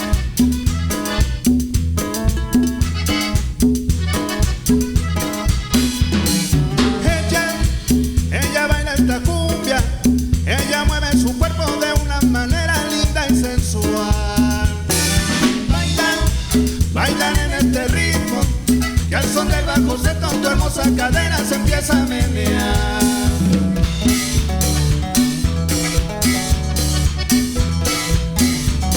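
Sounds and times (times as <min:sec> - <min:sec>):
band playing instrumental: 0:00.0 - 0:28.9.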